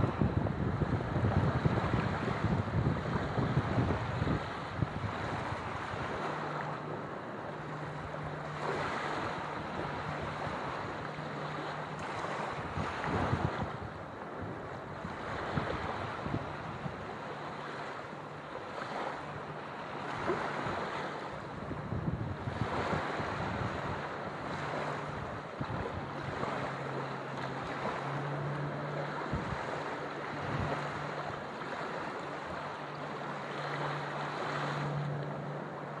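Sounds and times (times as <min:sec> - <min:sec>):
surf washing up on sand: 0:00.0 - 0:36.0
wind buffeting microphone: 0:00.0 - 0:36.0.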